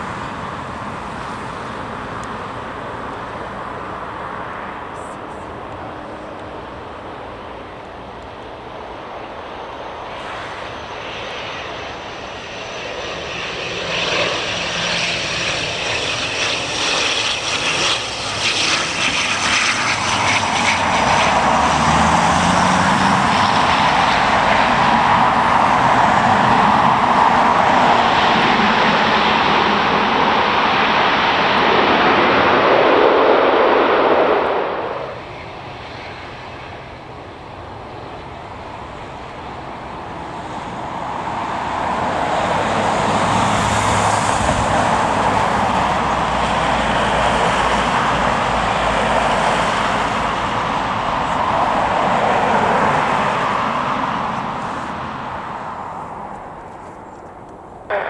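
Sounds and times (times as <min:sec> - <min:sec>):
airliner engines passing: 0:00.0 - 0:58.0.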